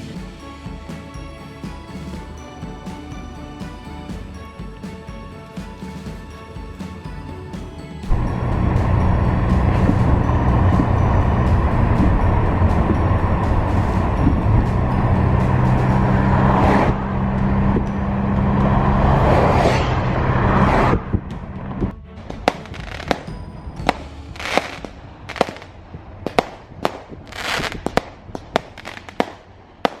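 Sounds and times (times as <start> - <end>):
fireworks bangs and cracks: 0.0 - 30.0.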